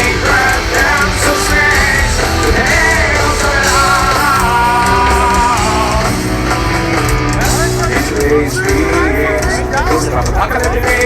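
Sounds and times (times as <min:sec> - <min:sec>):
man singing: 0:00.0 - 0:11.0
rock band playing live: 0:00.0 - 0:11.0.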